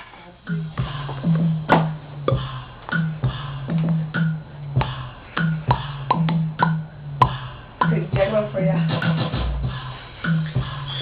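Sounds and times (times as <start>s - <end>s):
drum machine beat: 0.4s - 11.0s
low repeating bass line: 0.4s - 11.0s.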